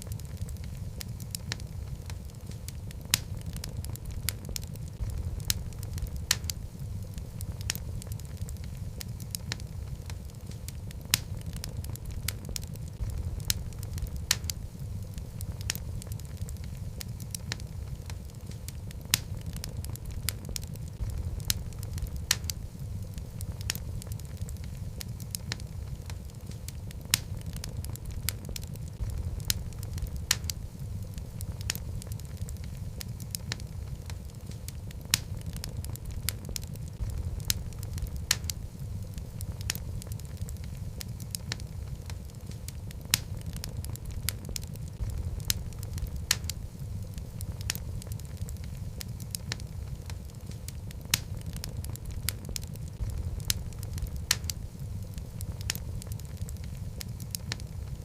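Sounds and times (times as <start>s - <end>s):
fire rumbling: 0.0s - 58.0s
wood fire crackling and popping: 0.0s - 58.0s.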